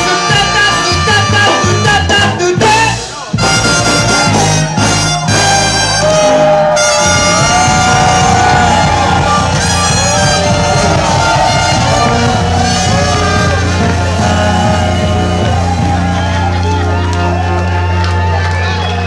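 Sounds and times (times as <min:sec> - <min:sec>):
ska band with saxophones: 0:00.0 - 0:19.0.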